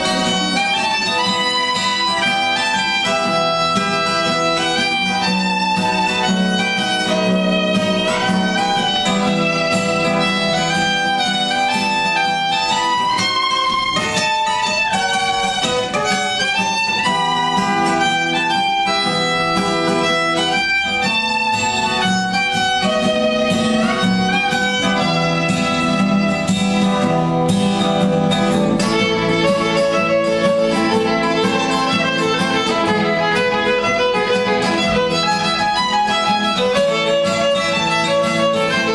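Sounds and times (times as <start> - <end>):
acoustic guitar: 0.0 - 38.9
violin melody: 0.0 - 38.9.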